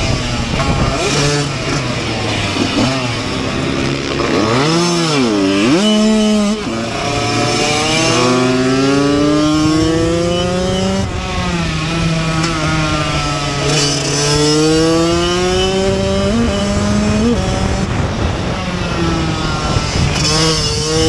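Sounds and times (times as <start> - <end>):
two-stroke motorcycle engine revving: 0.0 - 21.0.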